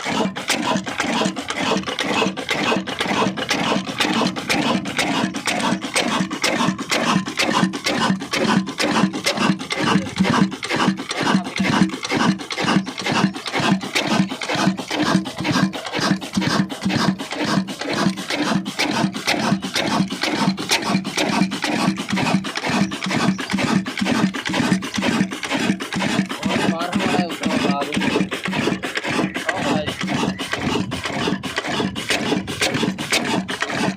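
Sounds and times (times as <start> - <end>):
diesel engine knocking: 0.0 - 33.9.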